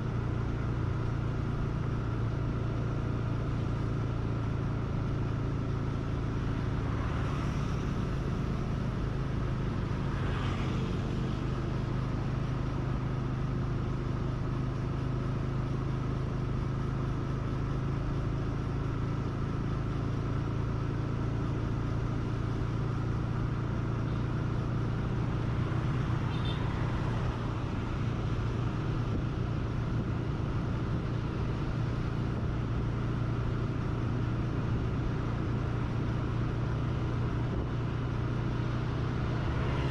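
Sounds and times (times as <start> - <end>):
passing traffic: 0.0 - 39.9
road and traffic noise: 0.0 - 39.9
vehicle engine humming: 0.0 - 39.9.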